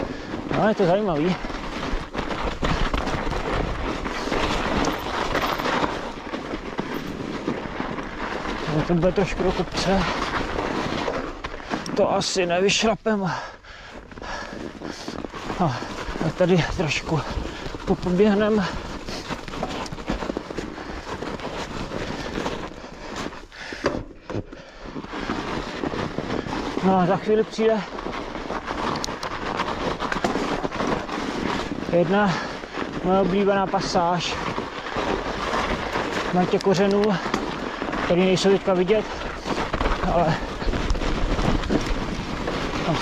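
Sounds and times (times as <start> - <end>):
bike rattling over ground: 0.0 - 43.0
bike tyres rushing through snow: 0.0 - 43.0.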